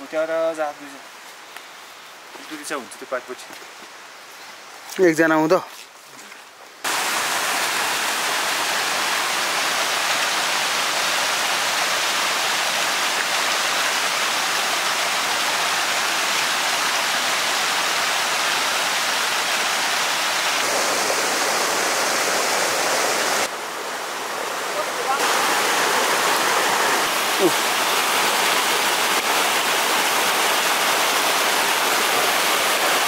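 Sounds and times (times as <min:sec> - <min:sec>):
steady rush like flowing water: 0:00.0 - 0:33.0.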